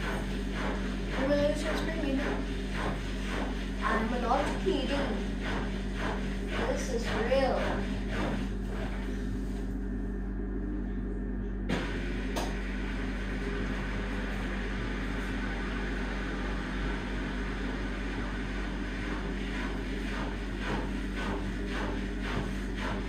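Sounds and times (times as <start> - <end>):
washing machine humming: 0.0 - 23.0.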